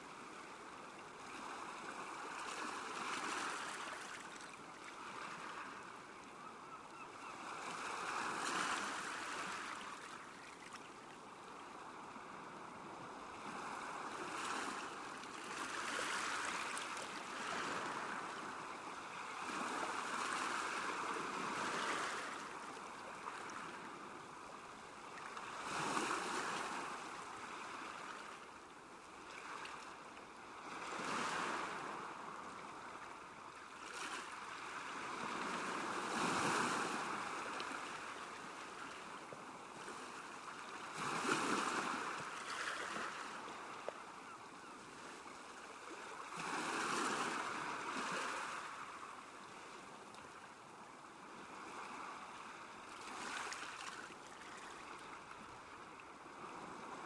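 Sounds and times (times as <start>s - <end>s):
small waves lapping at shore: 0.0s - 57.0s.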